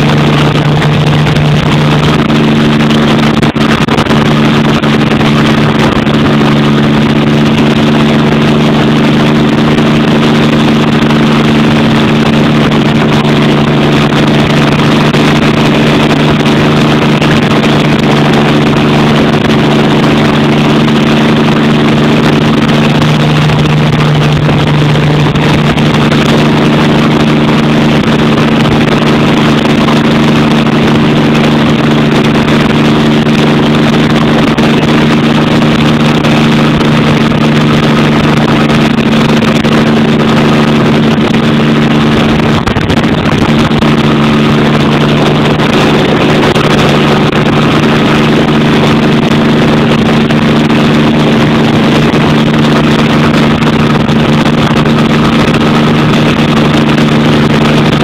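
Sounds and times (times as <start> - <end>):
helicopter engine and rotors: 0.0 - 58.0.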